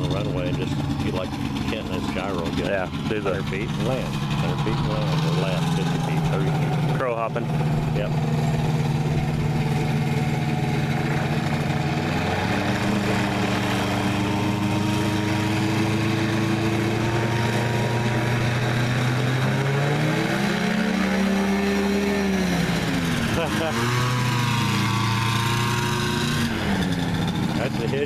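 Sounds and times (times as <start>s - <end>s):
ultralight plane engine and propeller: 0.0s - 28.0s.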